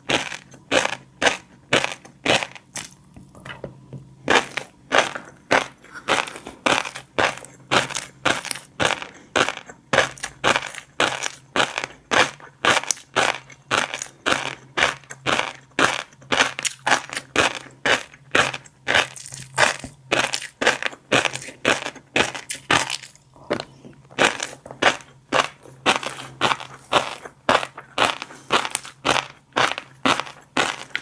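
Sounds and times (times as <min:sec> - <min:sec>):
fish roe popping while chewing: 0:04.3 - 0:31.0.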